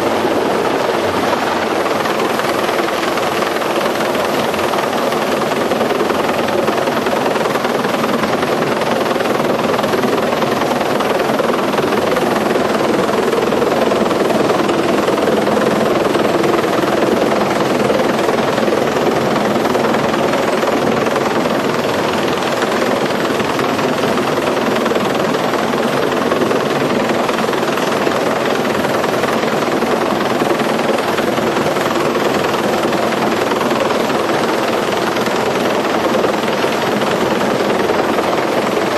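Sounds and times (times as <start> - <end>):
helicopter engine and rotors: 0.0 - 38.9.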